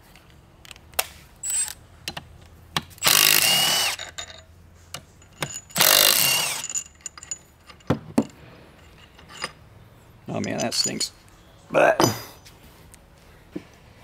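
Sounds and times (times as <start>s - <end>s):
tool and parts clinking: 0.1s - 11.4s.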